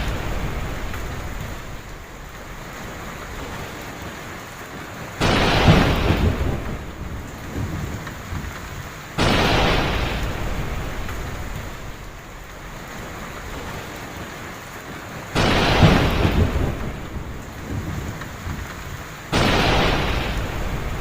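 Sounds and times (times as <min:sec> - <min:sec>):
thunder claps: 0:00.0 - 0:03.5, 0:05.2 - 0:14.2, 0:15.3 - 0:21.0
heavy rain: 0:00.0 - 0:21.0.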